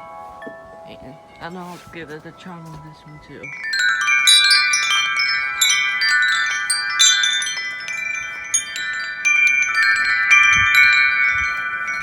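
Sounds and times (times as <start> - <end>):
metal wind chimes ringing: 0.0 - 12.0.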